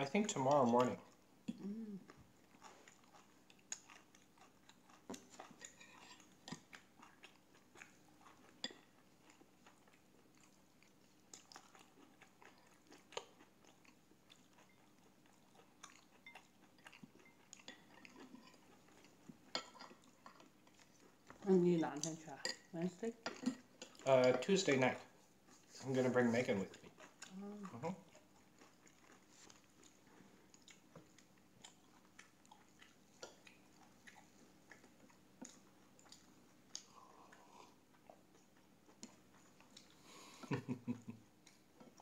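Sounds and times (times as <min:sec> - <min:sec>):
faint chewing: 0:00.4 - 0:42.0.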